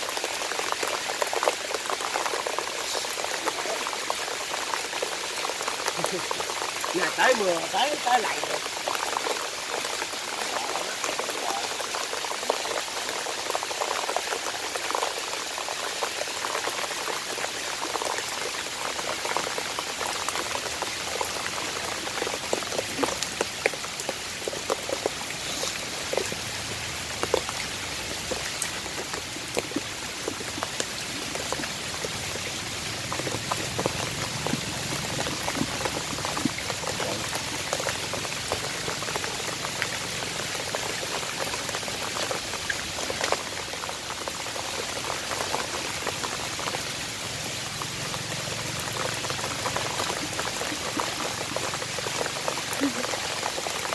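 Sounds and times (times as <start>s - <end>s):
heavy rain falling: 0.0s - 53.9s
raindrops ticking close by: 0.0s - 53.9s.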